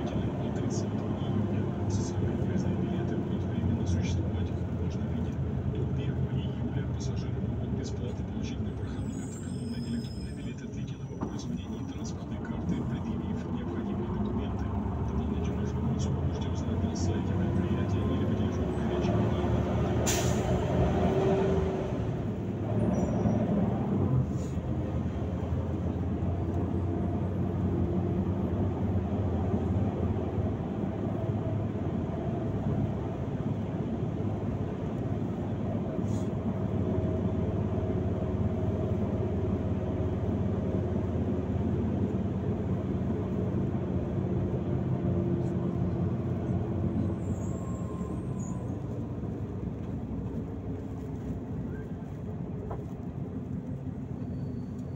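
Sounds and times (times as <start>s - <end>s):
bus engine hum: 0.0s - 54.9s
road noise: 0.0s - 54.9s.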